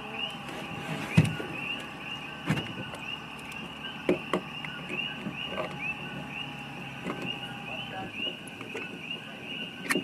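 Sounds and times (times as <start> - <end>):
frogs chirping: 0.0 - 10.0.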